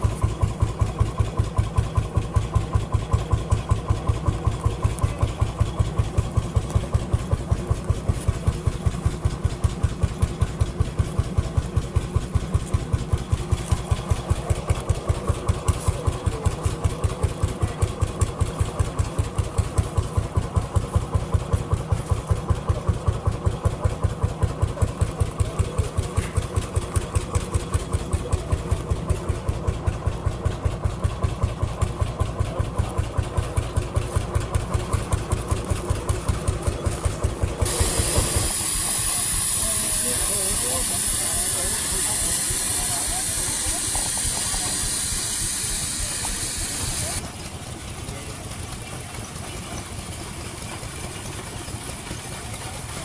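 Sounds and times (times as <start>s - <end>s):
engine idling slowly: 0.0s - 53.0s.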